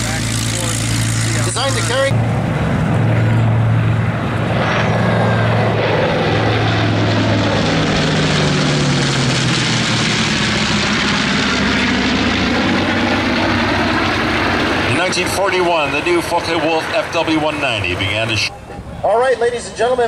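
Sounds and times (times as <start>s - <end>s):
propeller aircraft drone: 0.0s - 20.0s.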